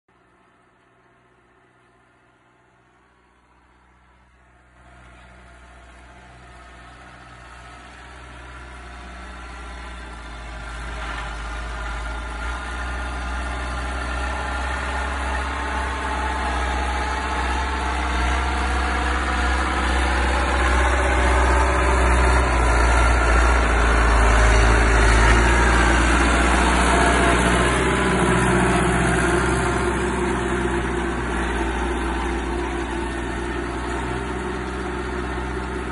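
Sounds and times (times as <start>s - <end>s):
tractor diesel engine under load: 0.1s - 35.9s.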